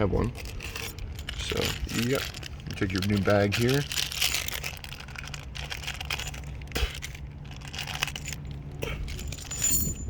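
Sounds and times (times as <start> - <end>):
plastic bag crinkling: 0.2 - 9.3.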